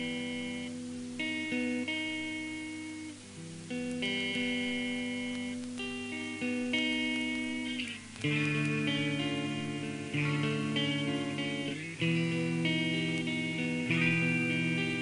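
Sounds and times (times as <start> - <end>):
ringing guitar chords: 0.0 - 15.0.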